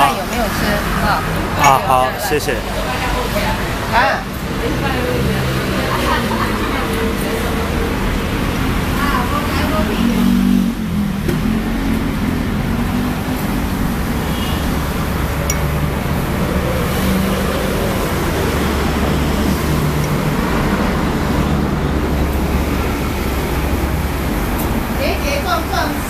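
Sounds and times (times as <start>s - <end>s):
road traffic rumble: 0.0s - 26.0s
street noise: 0.0s - 26.0s.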